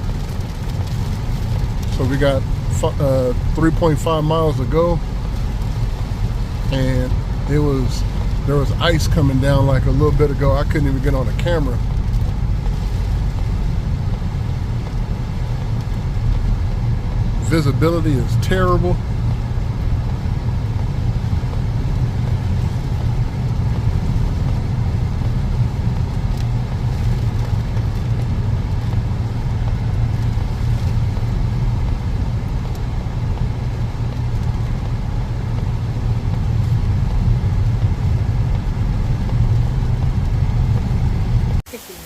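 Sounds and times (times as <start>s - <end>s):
car engine rumble: 0.0s - 42.0s
road noise: 0.0s - 42.0s.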